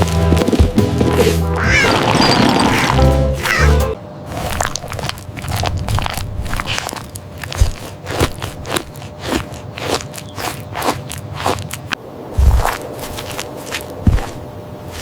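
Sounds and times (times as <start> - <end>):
dry crisp crunches: 0.0 - 15.0.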